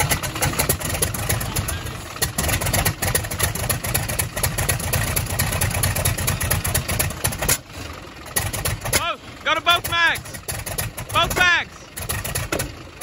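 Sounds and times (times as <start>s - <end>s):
radial aircraft engine popping: 0.0s - 13.0s.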